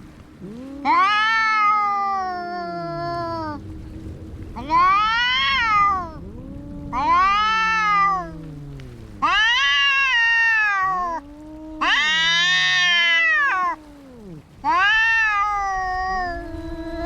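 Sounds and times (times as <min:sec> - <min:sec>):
cat low moaning call: 0:00.0 - 0:17.0
cat yowling: 0:00.4 - 0:03.6, 0:04.6 - 0:17.0.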